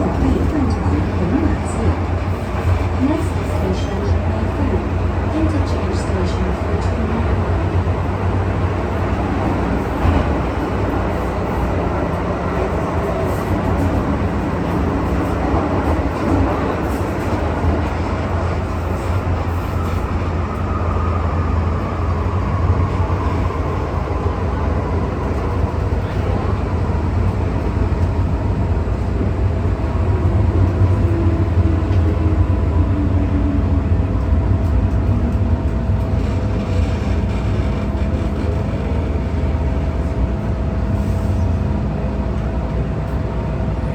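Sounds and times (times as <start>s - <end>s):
metro train wheels rumbling: 0.0s - 43.9s.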